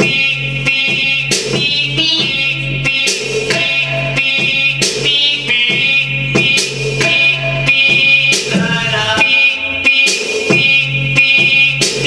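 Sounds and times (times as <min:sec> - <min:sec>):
dance music: 0:00.0 - 0:12.0.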